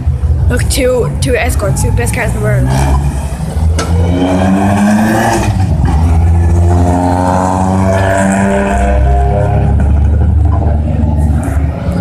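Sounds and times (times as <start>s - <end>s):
car engines revving past: 0.0s - 12.0s.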